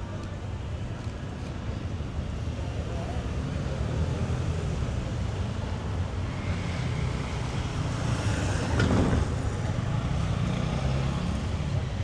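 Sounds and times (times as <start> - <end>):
street traffic rumbling: 0.0 - 12.0.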